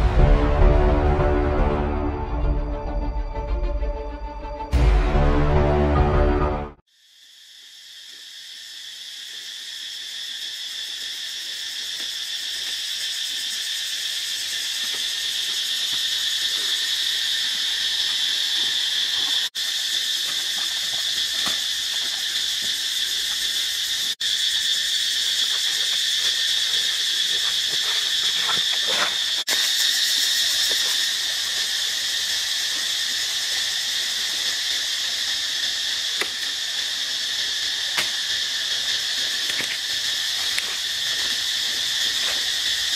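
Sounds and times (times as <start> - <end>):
forest insects buzzing: 5.8 - 42.9.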